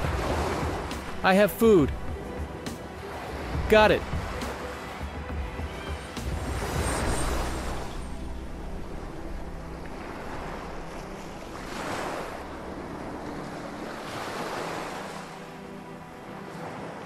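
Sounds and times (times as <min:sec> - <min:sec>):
sea surf washing in: 0:02.6 - 0:17.0.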